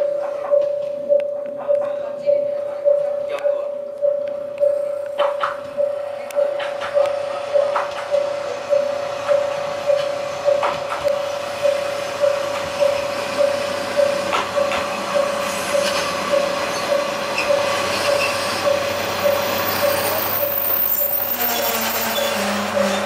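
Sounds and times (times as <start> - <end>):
level-crossing warning bell ringing: 0.0 - 23.0.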